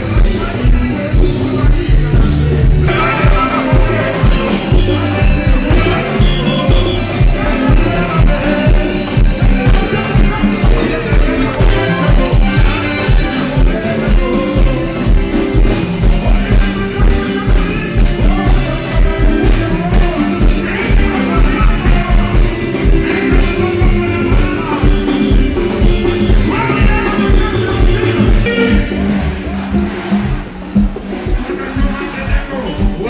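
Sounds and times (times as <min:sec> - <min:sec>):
band music with heavy bass beat: 0:00.0 - 0:33.0
voices singing: 0:00.0 - 0:33.0.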